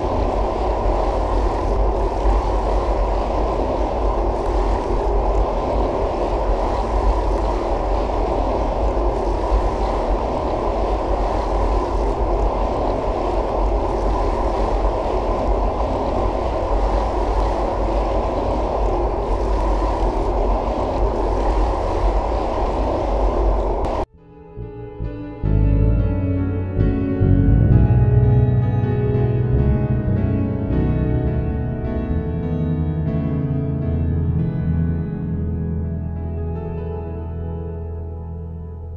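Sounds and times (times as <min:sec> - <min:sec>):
muffled low rumbling: 0:00.0 - 0:38.9.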